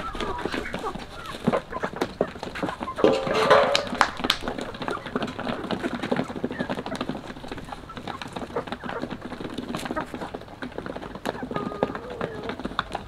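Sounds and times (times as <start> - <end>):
birds pecking grain on dirt: 0.0 - 13.0.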